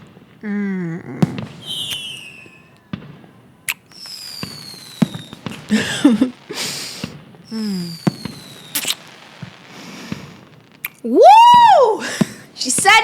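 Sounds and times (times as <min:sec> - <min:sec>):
fireworks bangs: 0:00.0 - 0:13.0
fireworks crackle: 0:00.0 - 0:13.0
whistling rockets: 0:01.1 - 0:13.0.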